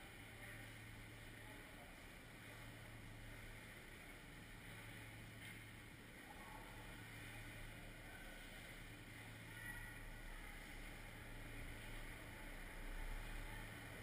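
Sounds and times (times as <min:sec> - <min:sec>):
constant low hum: 0:00.0 - 0:14.0
faint distant noises: 0:00.0 - 0:14.0.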